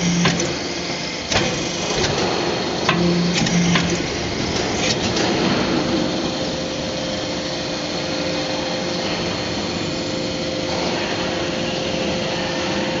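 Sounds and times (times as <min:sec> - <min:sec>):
hydraulic press humming with whine: 0:00.0 - 0:13.0.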